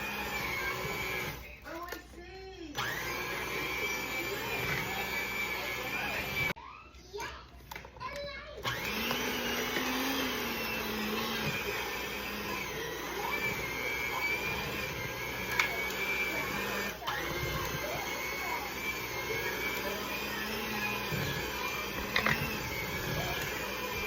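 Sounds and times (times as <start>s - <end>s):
electric mixer motor whine: 0.0s - 2.0s, 2.7s - 6.6s, 8.6s - 24.0s.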